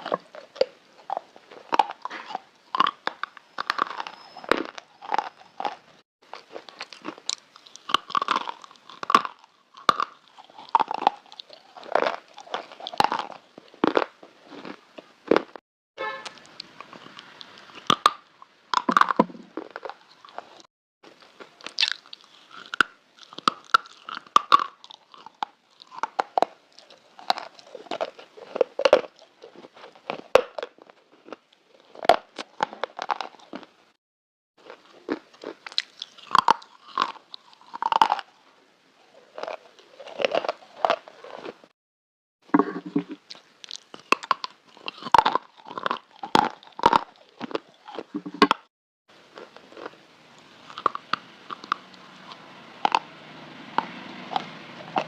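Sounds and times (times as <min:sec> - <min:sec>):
slate being chewed crunching: 0:00.0 - 0:15.6, 0:16.3 - 0:33.7, 0:34.6 - 0:38.3, 0:39.2 - 0:41.7, 0:42.6 - 0:53.1.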